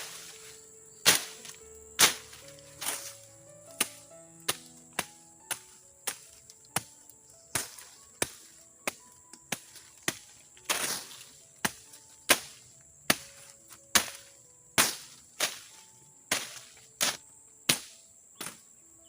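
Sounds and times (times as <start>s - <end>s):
high insect drone: 0.0s - 19.0s
sharp chopping strikes: 1.0s - 18.7s.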